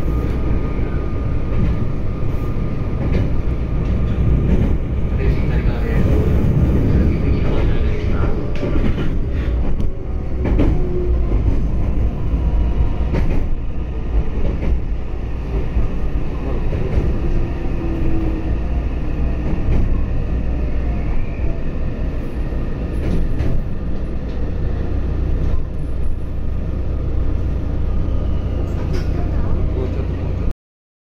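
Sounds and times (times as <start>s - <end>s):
rumble of train wheels on rail: 0.0s - 30.5s.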